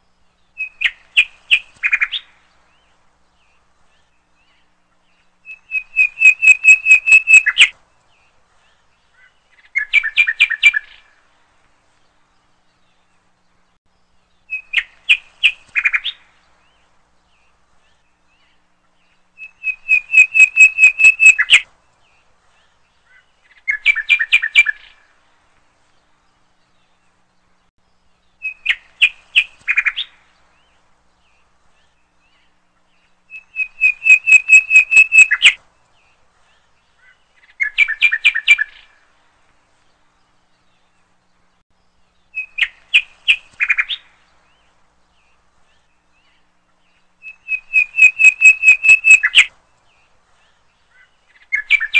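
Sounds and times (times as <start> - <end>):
birdsong chirps and trills: 0.0 - 51.9.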